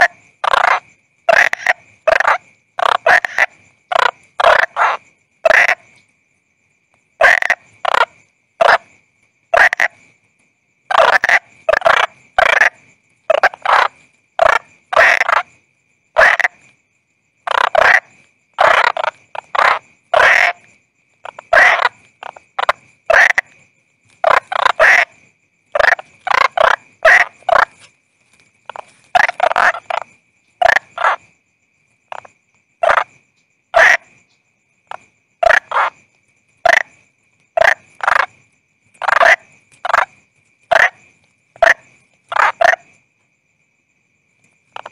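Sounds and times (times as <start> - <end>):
frogs croaking: 0.0 - 44.9.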